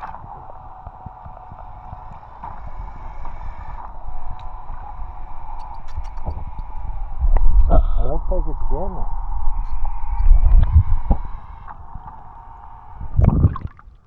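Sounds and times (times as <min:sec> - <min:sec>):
steady mechanical hum: 0:00.0 - 0:14.0
wind buffeting microphone: 0:00.0 - 0:14.0.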